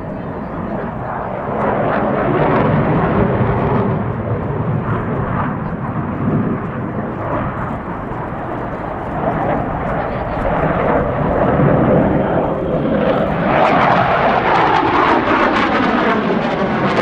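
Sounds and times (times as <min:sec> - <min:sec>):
jet engines in flight: 0:00.0 - 0:17.0.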